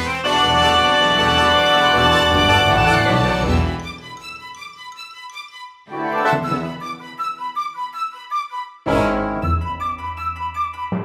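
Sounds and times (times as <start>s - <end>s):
soft music with held high notes: 0.0s - 11.0s.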